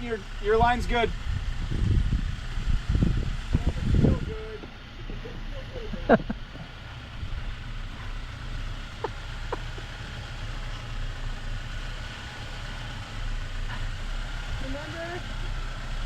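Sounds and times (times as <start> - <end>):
engine running low: 0.0 - 16.0.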